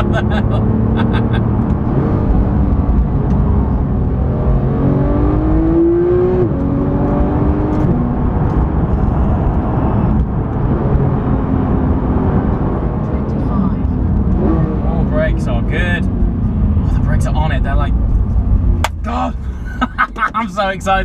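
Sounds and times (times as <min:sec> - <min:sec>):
car engine accelerating: 0:00.0 - 0:21.0
road and tyre noise: 0:00.0 - 0:21.0.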